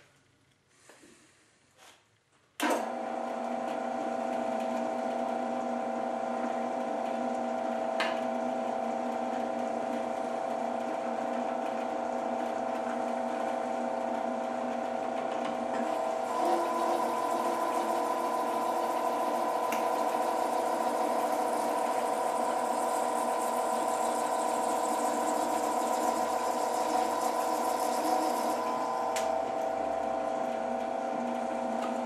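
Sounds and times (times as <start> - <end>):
drill press motor humming: 2.8 - 32.0.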